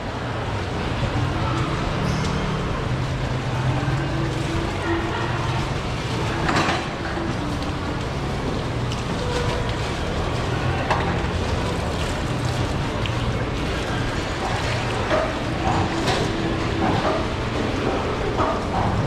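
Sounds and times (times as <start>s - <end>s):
low background hum and rumble: 0.0s - 19.0s.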